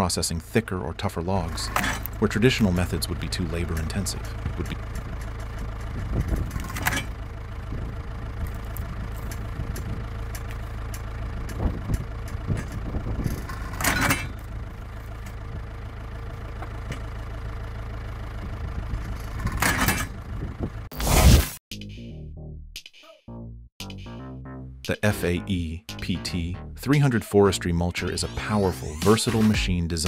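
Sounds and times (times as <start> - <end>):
engine running: 0.0 - 21.4, 24.0 - 30.0.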